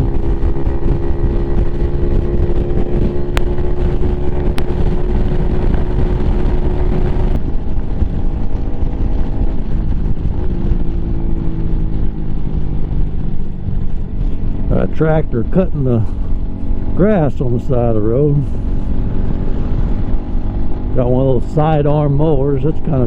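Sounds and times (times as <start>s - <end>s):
motorcycle engine running: 0.0s - 23.0s
wind rush: 0.0s - 23.0s.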